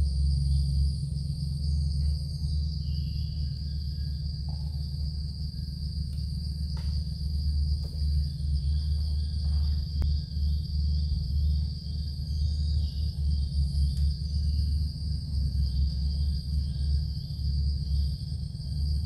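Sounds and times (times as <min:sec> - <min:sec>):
insects trilling: 0:00.0 - 0:19.0
low rumble: 0:00.0 - 0:19.0.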